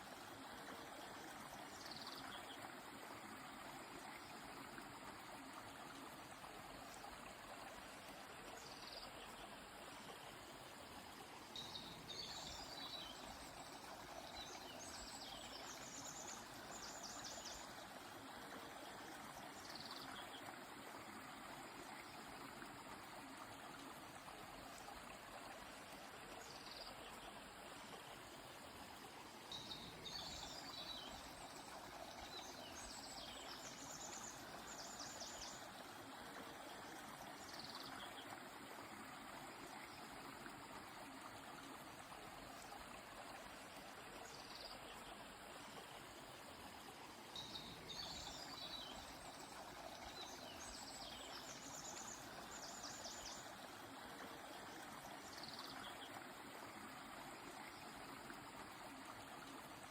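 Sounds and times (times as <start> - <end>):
flowing river: 0.0 - 59.9.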